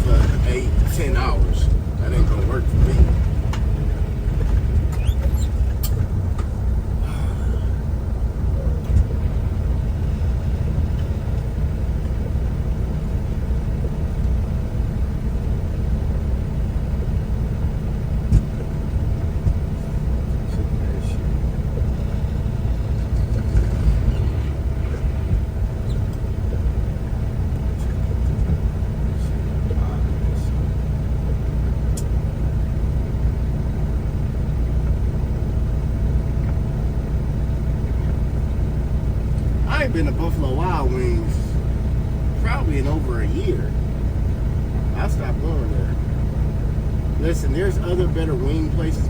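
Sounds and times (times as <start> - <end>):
faint steady hum: 0.0 - 49.0
truck engine and road rumble: 0.0 - 49.0.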